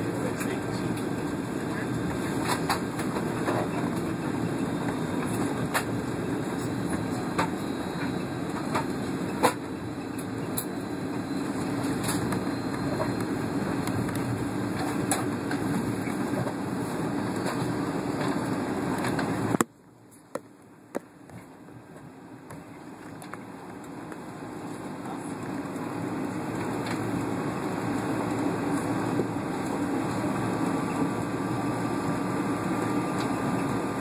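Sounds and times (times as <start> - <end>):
airplane engines and wheels rumbling: 0.0 - 34.0.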